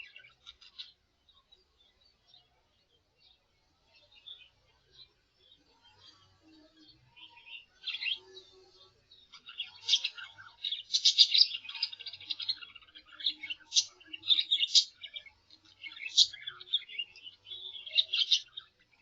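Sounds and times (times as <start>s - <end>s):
songbird singing whistled notes: 0.0s - 19.0s.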